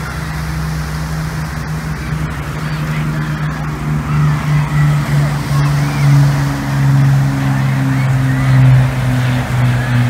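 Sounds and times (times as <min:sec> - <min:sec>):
aircraft piston engines droning: 0:00.0 - 0:10.0.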